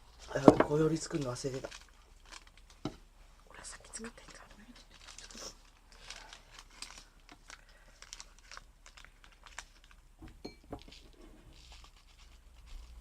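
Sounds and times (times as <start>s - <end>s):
sachet crinkling and tearing: 0.1s - 2.9s, 3.8s - 10.2s, 10.8s - 13.0s.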